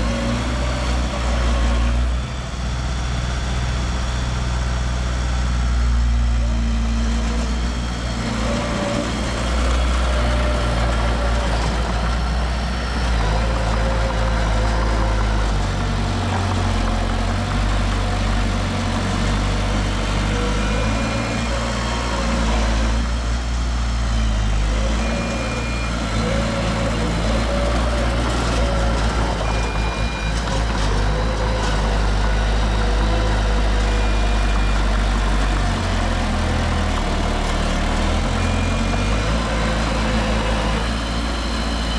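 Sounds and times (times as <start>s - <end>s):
diesel construction machinery running: 0.0s - 41.9s.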